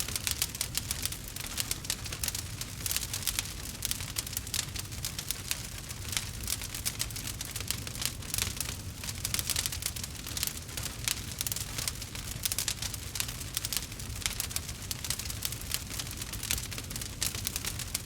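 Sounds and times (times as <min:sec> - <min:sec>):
campfire crackling: 0:00.0 - 0:18.0
fire low rumble: 0:00.0 - 0:18.0.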